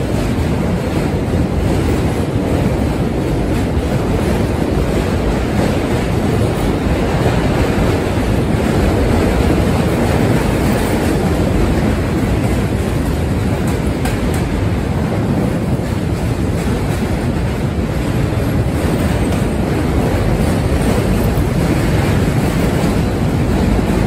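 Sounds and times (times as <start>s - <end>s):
train rumbling over bridge: 0.0s - 24.0s.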